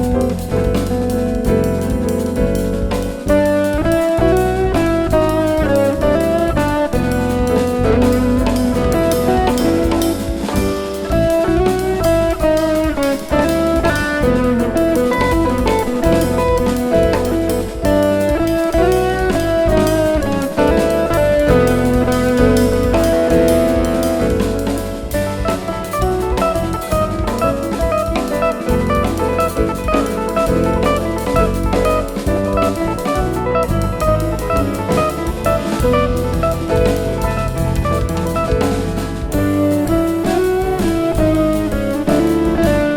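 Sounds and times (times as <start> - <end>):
drums keeping steady beat: 0.0 - 42.9
guitar playing: 0.0 - 42.9
jazz band playing: 0.0 - 42.9.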